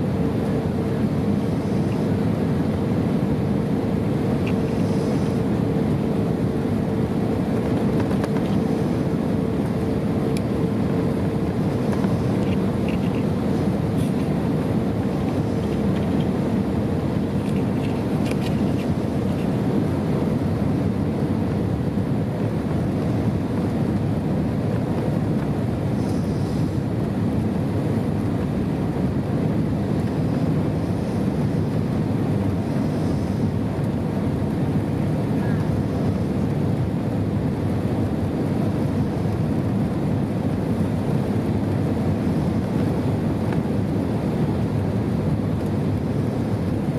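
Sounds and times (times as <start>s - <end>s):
faint steady hum: 0.0s - 46.9s
jet engine and airflow rush: 0.0s - 46.9s.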